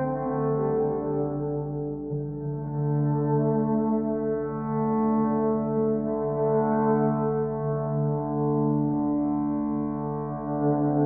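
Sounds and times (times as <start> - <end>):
slow mellow horn-like chords: 0.0 - 11.0.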